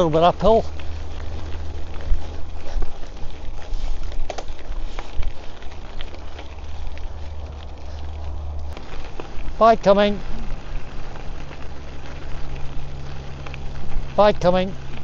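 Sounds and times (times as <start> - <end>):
bike clicks and rattles: 0.0 - 15.0
bike tyres crackling on trail: 0.0 - 15.0
wind rumble on microphone: 0.0 - 15.0.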